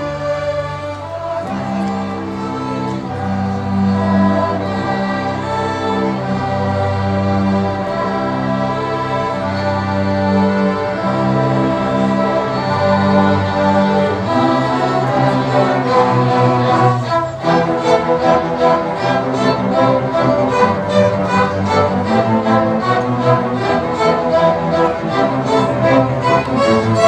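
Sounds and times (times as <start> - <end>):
string orchestra playing: 0.0 - 27.0.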